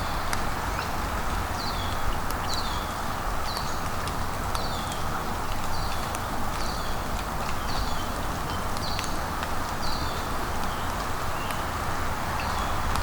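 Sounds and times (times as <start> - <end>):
rain falling in forest: 0.0 - 13.0.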